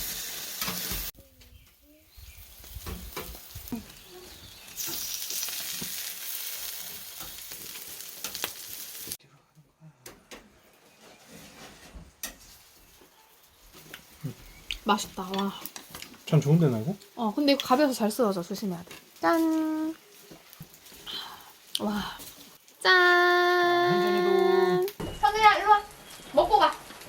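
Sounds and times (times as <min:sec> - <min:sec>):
food sizzling: 0:00.0 - 0:09.2, 0:12.2 - 0:27.0.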